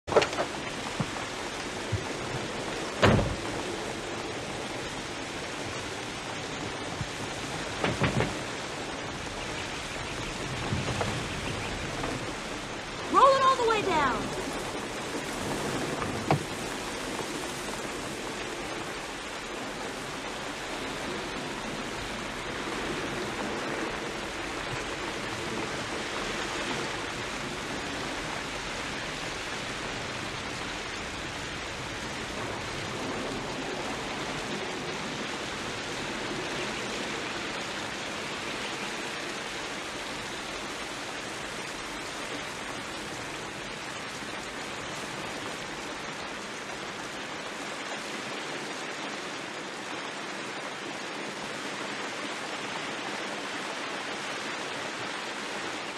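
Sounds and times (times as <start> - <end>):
heavy rain on a car: 0.0 - 55.9.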